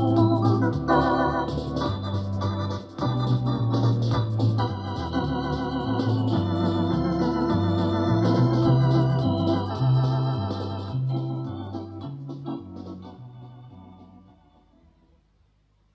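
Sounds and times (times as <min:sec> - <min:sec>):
electronic organ chords: 0:00.0 - 0:15.0
organ pedal bass line: 0:00.0 - 0:15.0.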